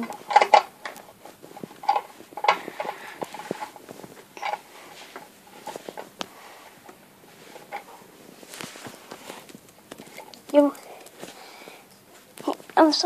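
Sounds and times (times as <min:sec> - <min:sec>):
handling clicks taps and rustles: 0:00.0 - 0:11.4.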